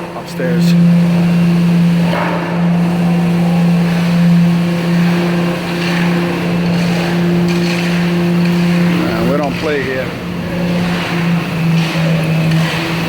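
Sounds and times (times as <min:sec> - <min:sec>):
construction machinery humming: 0:00.0 - 0:13.0.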